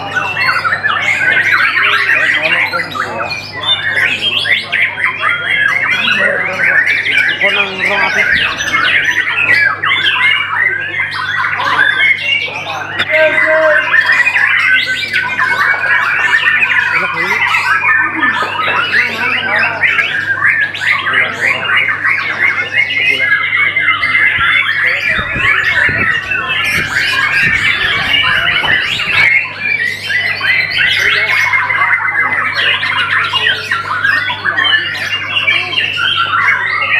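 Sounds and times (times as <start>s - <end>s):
bird singing whistles and chirps: 0.0s - 36.9s.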